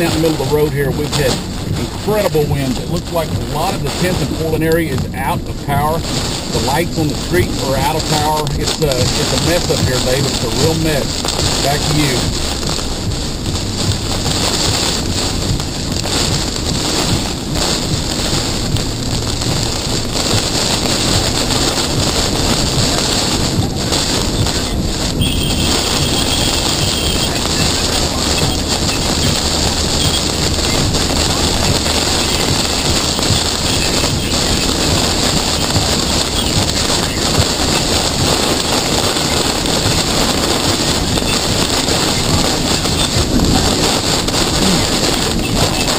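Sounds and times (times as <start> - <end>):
strong storm wind rushing: 0.0 - 45.9
wind buffeting microphone: 0.0 - 45.9.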